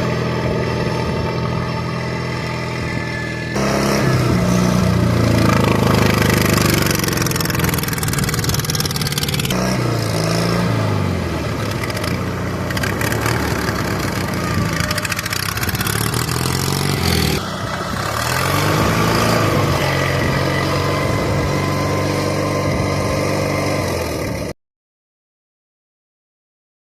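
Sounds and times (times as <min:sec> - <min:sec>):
lawn mower engine revving: 0:00.0 - 0:24.5.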